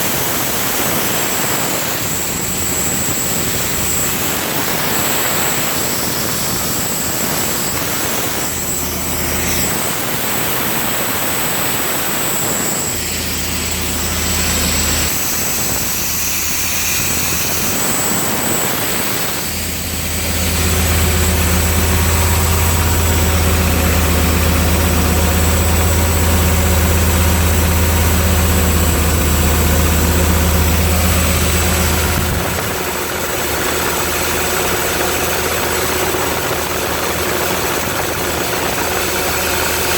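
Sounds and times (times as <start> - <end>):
air compressor engine running: 0.0 - 39.9.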